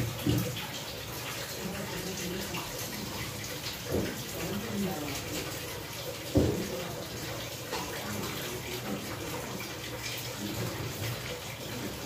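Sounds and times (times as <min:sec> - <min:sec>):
water running from tap: 0:00.0 - 0:12.0.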